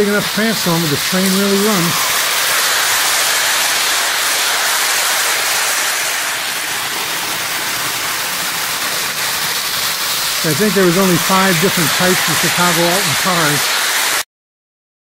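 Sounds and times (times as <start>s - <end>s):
toy train rolling on track: 0.0s - 14.2s.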